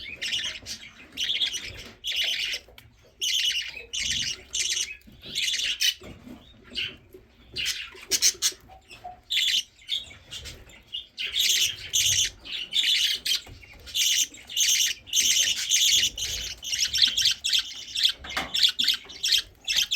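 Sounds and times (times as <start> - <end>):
baby birds begging chirps: 0.0 - 19.9.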